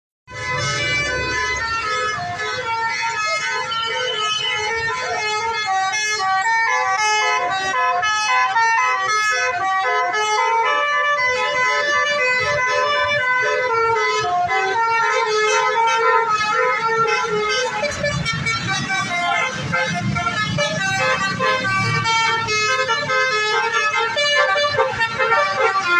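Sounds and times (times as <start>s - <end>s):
bus air horns playing melodies: 0.3s - 25.9s.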